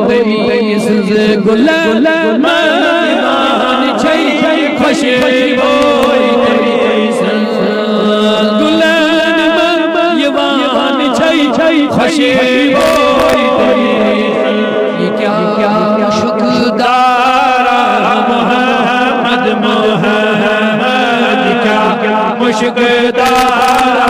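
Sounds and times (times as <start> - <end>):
man chanting melodically: 0.0 - 24.0.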